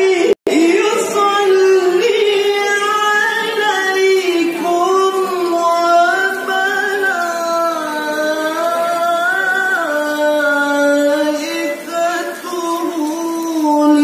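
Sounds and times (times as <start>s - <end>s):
man reciting melismatically: 0.0s - 14.0s.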